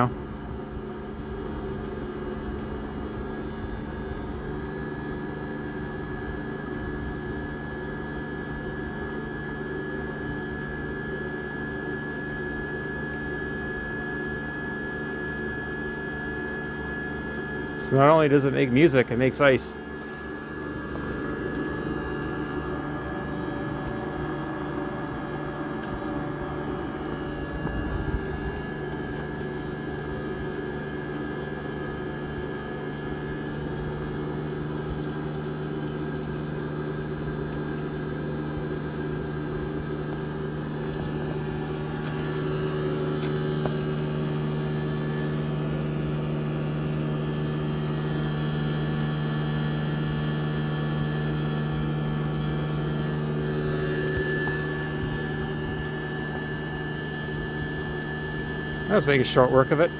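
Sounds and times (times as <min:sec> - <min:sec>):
heat pump compressor hum: 0:00.0 - 0:59.9.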